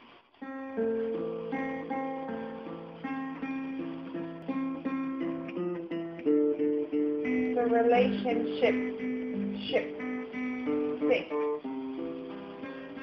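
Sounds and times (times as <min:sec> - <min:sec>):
guitar picking chords: 0:00.0 - 0:13.0.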